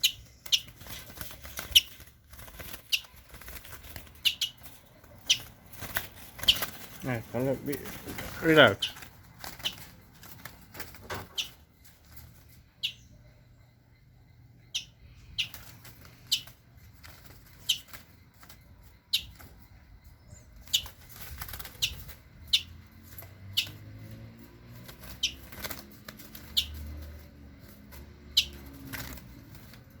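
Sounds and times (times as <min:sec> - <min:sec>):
birds flapping wings in a cage: 0:00.0 - 0:12.7, 0:15.4 - 0:19.9, 0:20.6 - 0:30.0.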